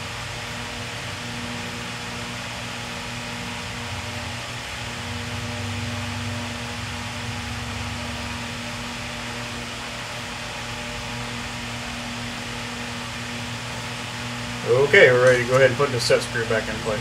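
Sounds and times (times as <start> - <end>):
mechanical hum with drone: 0.0 - 17.0.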